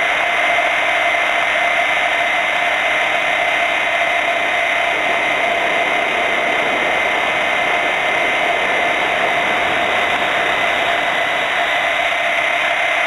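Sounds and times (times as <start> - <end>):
loud hiss: 0.0 - 13.0
rc helicopter motor whine: 0.0 - 13.0
rotor blades rushing: 0.0 - 13.0.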